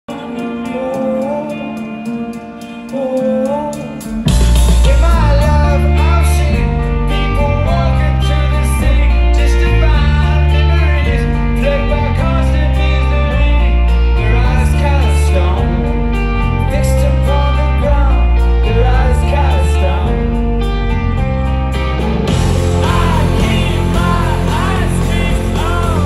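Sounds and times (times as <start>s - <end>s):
lead singer singing: 0.1s - 20.9s, 22.3s - 26.0s
live rock band: 0.1s - 26.0s.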